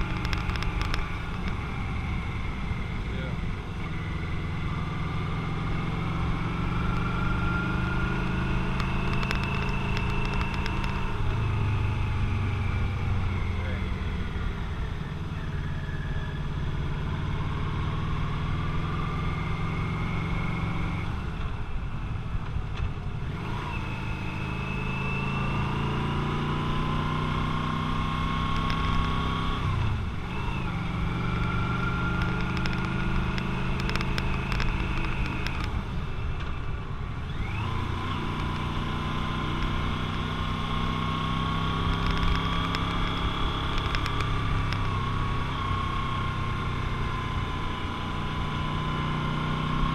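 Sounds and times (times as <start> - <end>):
motorcycle engine revving: 0.0 - 21.5, 23.2 - 49.9.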